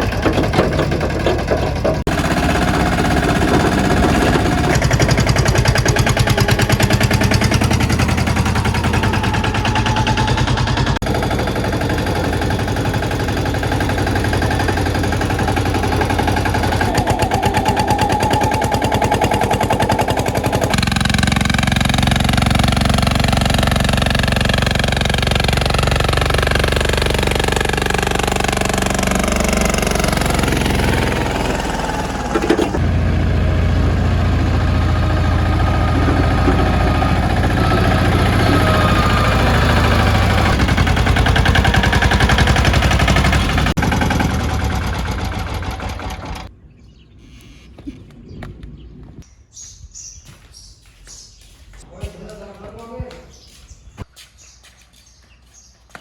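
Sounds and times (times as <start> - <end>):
tractor engine running: 0.0 - 46.6.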